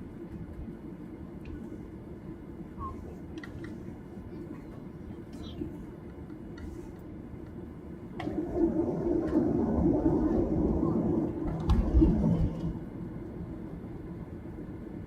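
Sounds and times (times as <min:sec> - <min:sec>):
low rumbling in aircraft cabin: 0:00.0 - 0:15.0.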